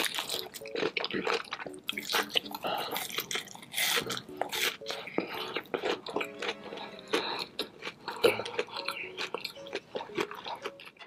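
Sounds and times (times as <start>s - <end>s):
close chewing with crunches: 0.0s - 11.0s.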